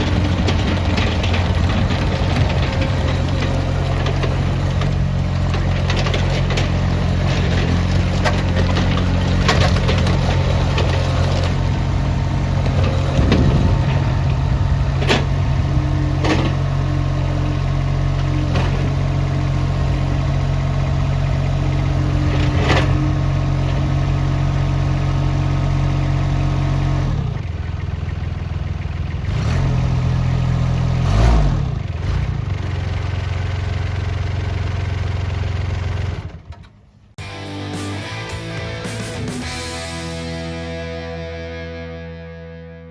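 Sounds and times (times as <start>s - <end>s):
loader engine running: 0.0s - 41.9s.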